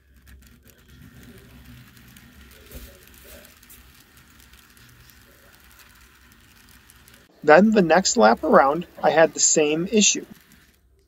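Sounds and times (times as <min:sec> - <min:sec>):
model train whirring and clicking: 0:00.0 - 0:11.0.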